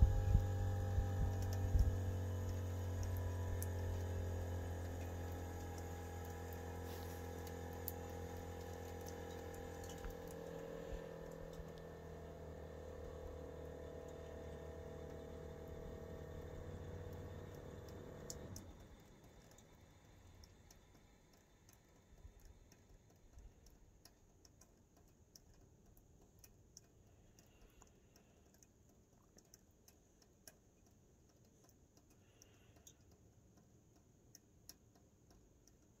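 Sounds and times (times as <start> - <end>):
heat pump humming: 0.0 - 35.8
faint ticks and clicks: 0.0 - 36.0.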